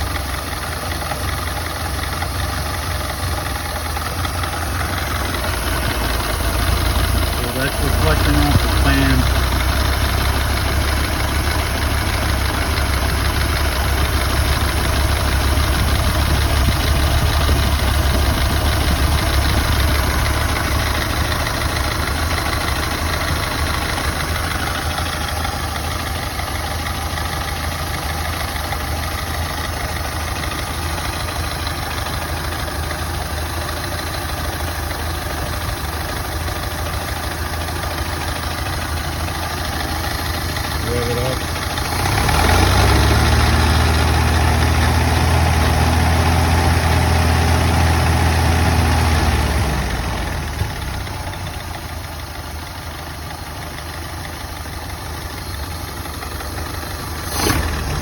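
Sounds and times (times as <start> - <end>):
car engine idling with misfire: 0.0 - 58.0.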